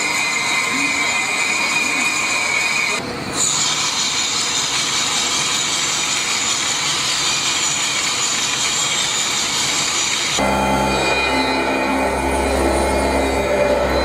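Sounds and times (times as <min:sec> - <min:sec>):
cnc machine cutting metal: 0:00.0 - 0:14.0.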